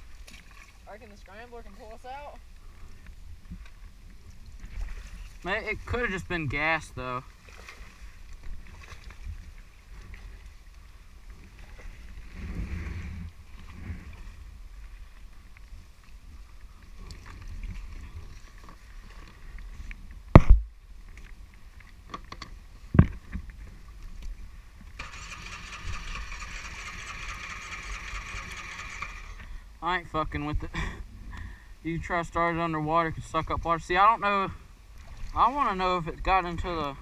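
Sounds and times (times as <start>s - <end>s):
wind and water rumble: 0.0s - 37.0s.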